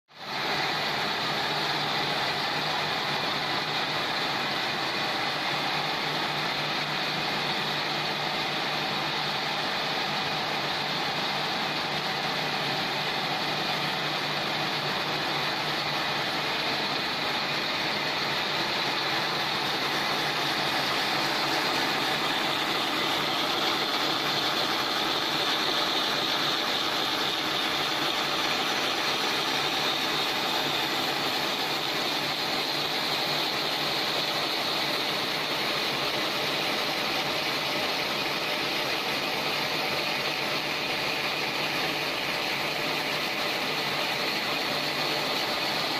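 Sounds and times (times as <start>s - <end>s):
machines running: 0.2s - 45.9s.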